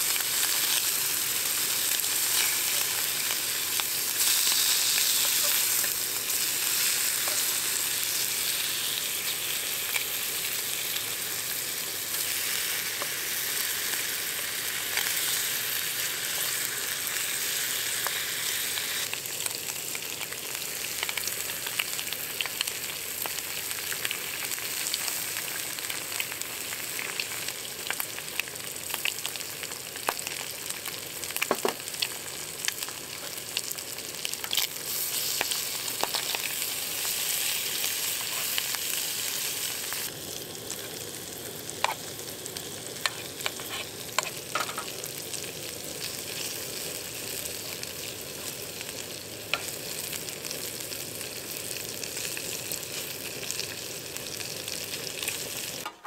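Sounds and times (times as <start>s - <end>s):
food sizzling in a hot pan: 0.0s - 55.9s.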